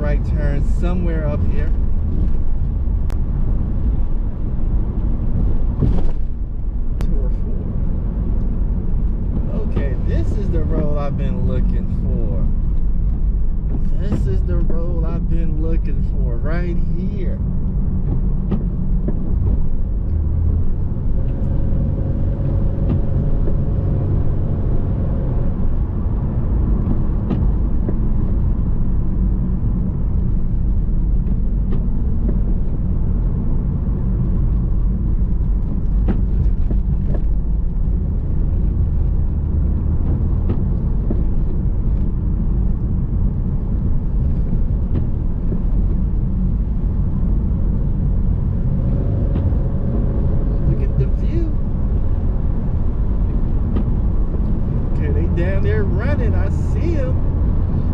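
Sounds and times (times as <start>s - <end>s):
car engine running: 0.0s - 57.9s.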